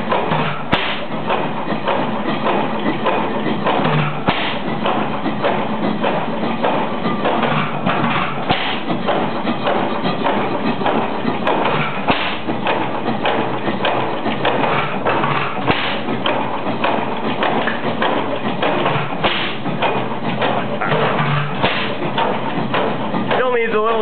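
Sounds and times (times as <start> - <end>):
old gas engine clattering: 0.0 - 24.0.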